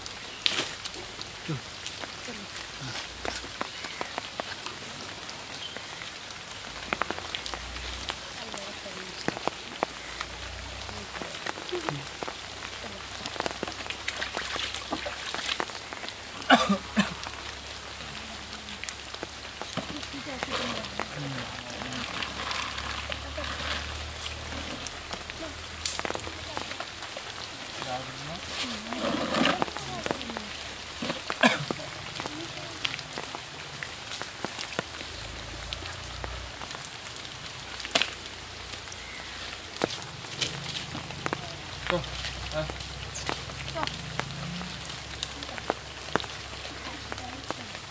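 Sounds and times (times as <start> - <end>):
drops ticking and dripping: 0.0 - 28.9, 29.5 - 47.9
rain falling: 0.0 - 47.9.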